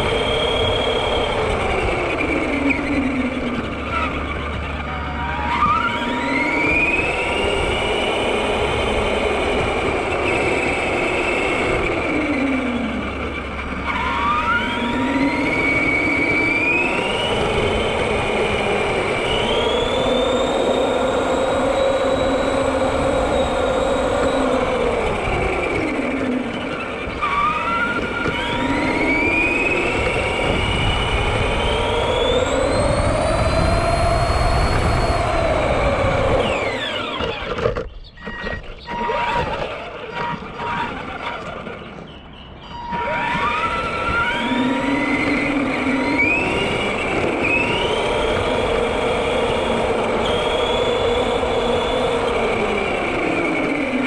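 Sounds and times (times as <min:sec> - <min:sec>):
electric motor whining: 0:00.0 - 0:54.0.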